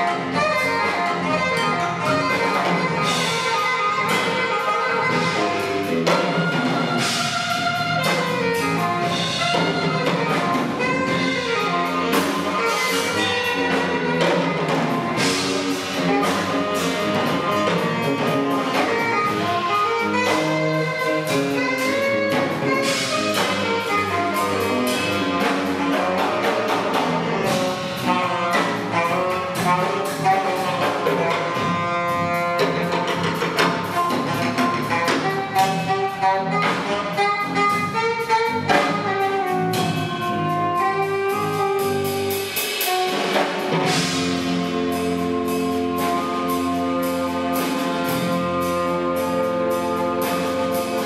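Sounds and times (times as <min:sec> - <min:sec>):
live band music: 0:00.0 - 0:51.0
saxophone melody: 0:00.0 - 0:51.0.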